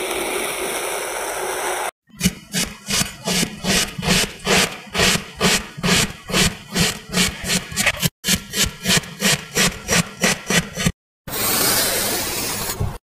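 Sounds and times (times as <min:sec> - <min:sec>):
blade cutting kinetic sand: 0:00.0 - 0:12.8.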